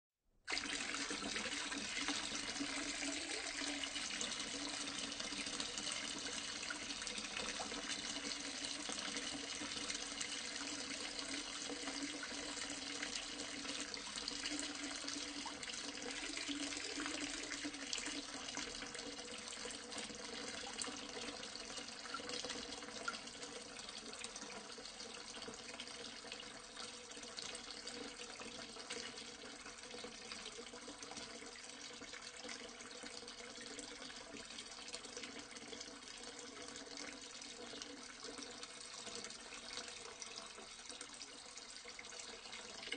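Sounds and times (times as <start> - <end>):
water pouring into sink: 0.5 - 42.9.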